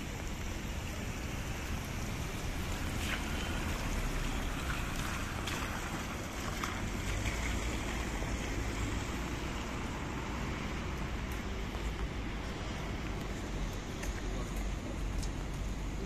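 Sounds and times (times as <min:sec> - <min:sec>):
rain: 0:00.0 - 0:16.0
traffic on wet pavement: 0:00.0 - 0:16.0.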